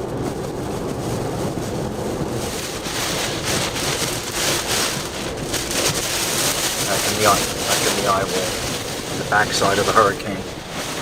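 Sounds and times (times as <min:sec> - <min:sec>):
hurricane rain and wind: 0:00.0 - 0:11.0.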